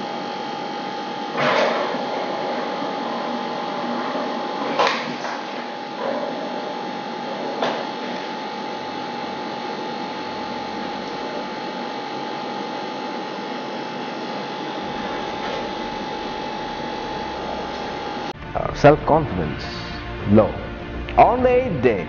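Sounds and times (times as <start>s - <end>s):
whirring machine with high whine: 0.0s - 19.4s.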